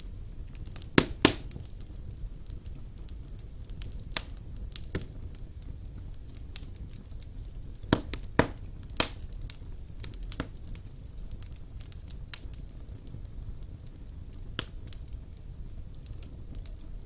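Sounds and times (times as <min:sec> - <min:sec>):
firewood crackling: 0:00.0 - 0:17.0
loud fire pops: 0:00.0 - 0:17.0
low steady rumble: 0:00.0 - 0:17.0.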